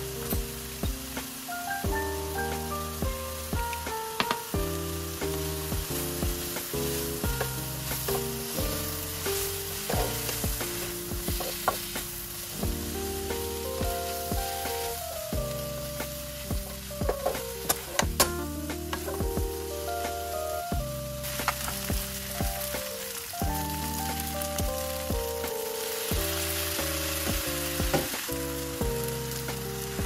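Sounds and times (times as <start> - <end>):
background music: 0.0 - 30.0
mushrooms sizzling in a pan: 0.0 - 30.0.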